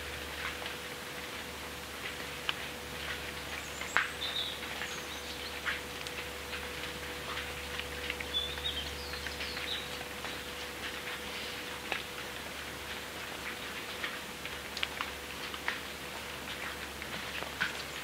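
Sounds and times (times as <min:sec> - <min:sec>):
rain pattering on a wet path: 0:00.0 - 0:18.0.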